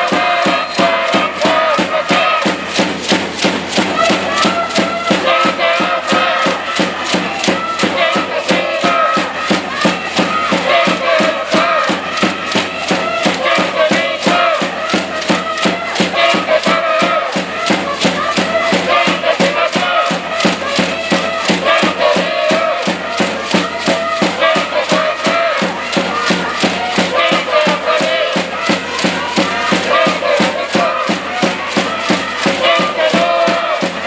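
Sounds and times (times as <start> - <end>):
crowd chanting in unison: 0.0 - 34.0
fast steady drum beat: 0.0 - 34.0.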